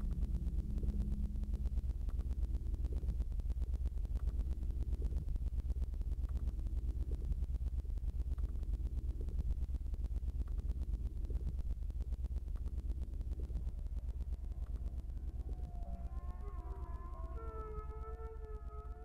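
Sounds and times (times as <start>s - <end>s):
rapidly pulsing low hum: 0.0s - 19.0s.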